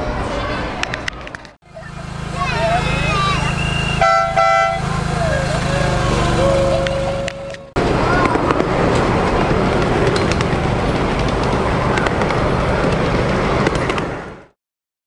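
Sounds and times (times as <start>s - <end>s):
miniature train rumble and clatter: 0.8s - 14.5s.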